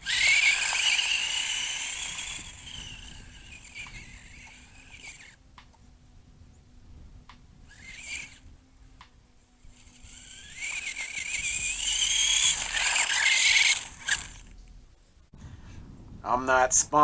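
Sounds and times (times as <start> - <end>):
electric motor whine: 0.0 - 14.8
tyre and drivetrain noise: 0.0 - 15.2.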